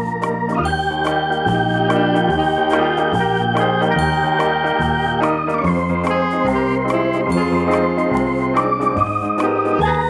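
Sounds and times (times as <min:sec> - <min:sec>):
background music chords: 0:00.0 - 0:10.0.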